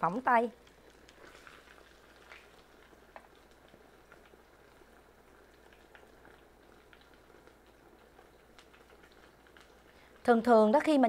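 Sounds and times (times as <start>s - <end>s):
tofu sizzling in hot oil: 0.0s - 11.0s
oil popping: 0.6s - 10.3s.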